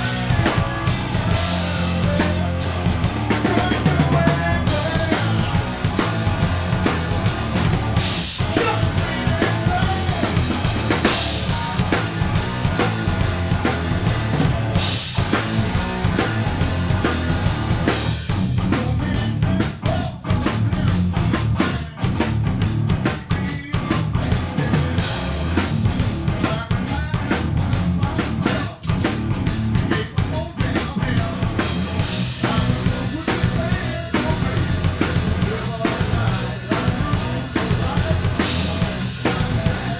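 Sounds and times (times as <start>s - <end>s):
drum kit: 0.0s - 39.9s
rock band playing live: 0.0s - 39.9s.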